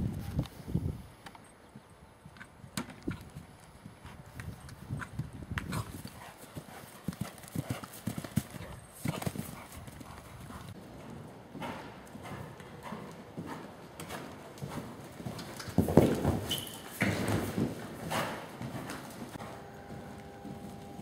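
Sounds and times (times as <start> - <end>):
horse hoofbeats on grass: 2.3 - 20.8.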